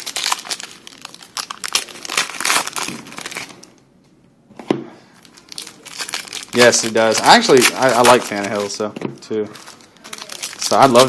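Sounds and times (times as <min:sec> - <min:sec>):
foil wrapper crinkling and tearing: 0:00.0 - 0:03.7, 0:05.2 - 0:11.0.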